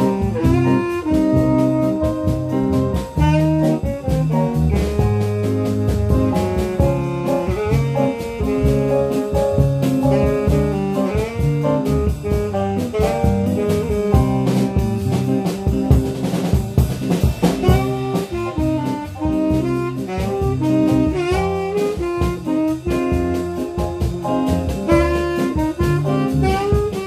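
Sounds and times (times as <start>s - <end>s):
double bass walking line: 0.0s - 27.0s
drum kit groove: 0.0s - 27.0s
lead melody: 0.0s - 27.0s
piano keyboard: 0.0s - 27.0s.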